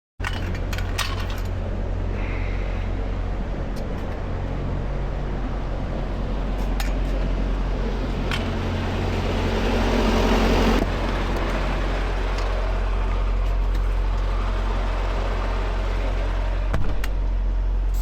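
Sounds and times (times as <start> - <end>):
diesel engine running: 0.2 - 18.0.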